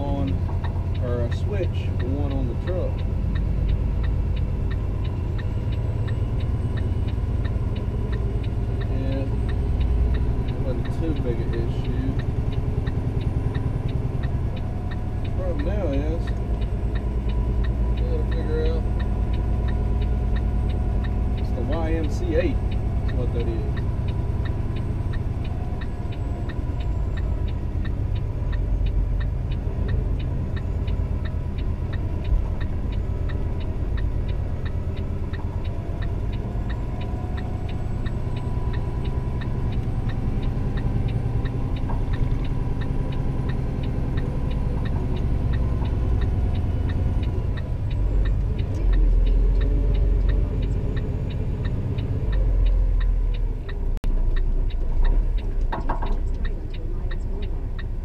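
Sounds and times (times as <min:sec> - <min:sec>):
diesel truck engine running: 0:00.0 - 0:58.0
fast even ticking: 0:00.2 - 0:58.0.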